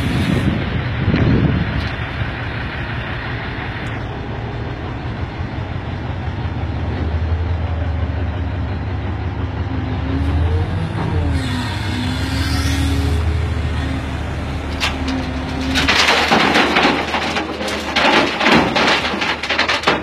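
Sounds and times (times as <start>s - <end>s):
diesel engine rumbling under load: 0.0s - 20.0s.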